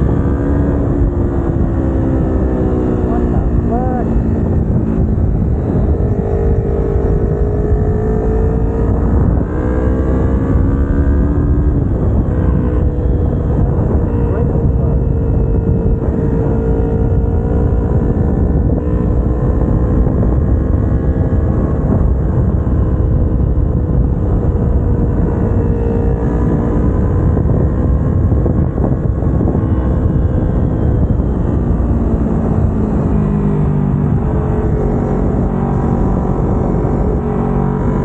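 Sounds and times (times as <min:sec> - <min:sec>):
motorcycle engine running: 0:00.0 - 0:38.0
wind rush on microphone: 0:00.0 - 0:38.0.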